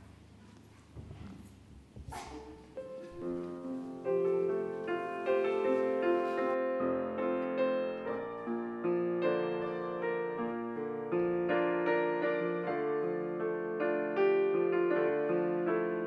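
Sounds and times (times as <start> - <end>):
electric piano chords: 2.1 - 16.0.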